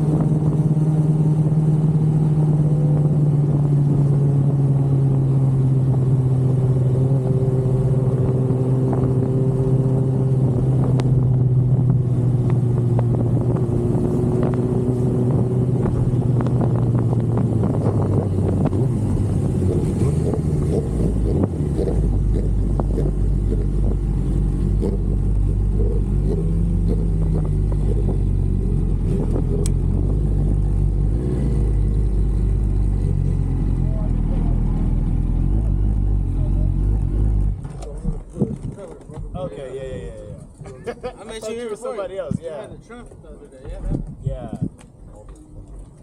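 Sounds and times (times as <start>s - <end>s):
motorcycle engine running: 0.0s - 38.8s.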